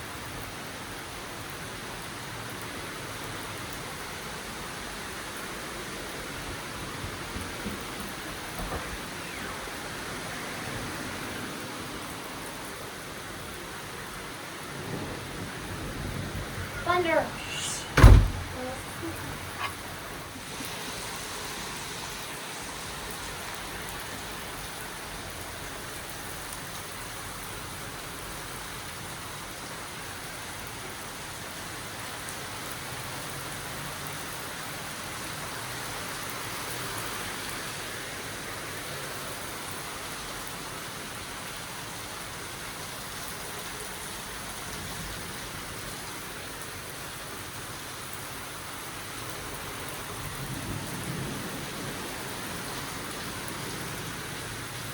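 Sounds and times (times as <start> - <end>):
steady rain hissing on surfaces: 0.0 - 54.9.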